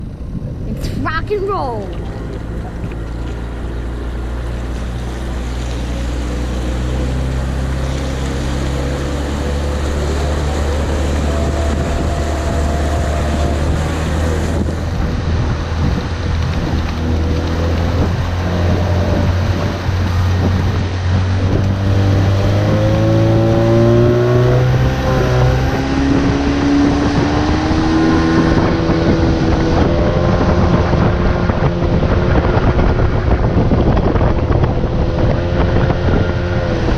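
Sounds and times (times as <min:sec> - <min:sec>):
low rumble: 0:00.0 - 0:36.9
wind on microphone: 0:00.0 - 0:36.9.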